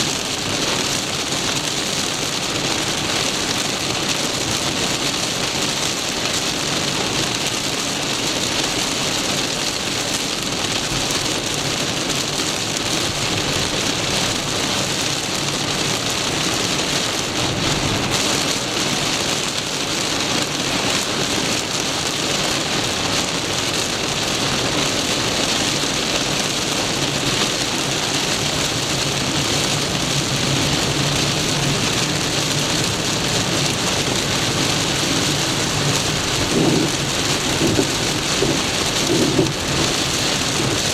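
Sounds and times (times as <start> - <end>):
heavy rain beating on a car: 0.0 - 40.9.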